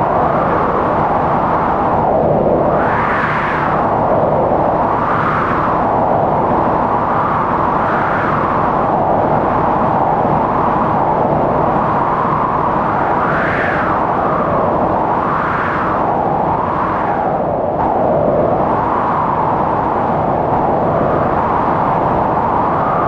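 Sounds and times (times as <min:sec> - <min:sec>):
strong wind howling: 0:00.0 - 0:23.0.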